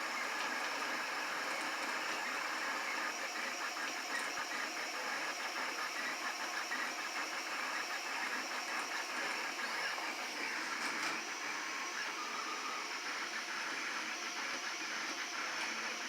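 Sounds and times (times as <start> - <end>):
printer motors and fans whirring: 0.0 - 16.0.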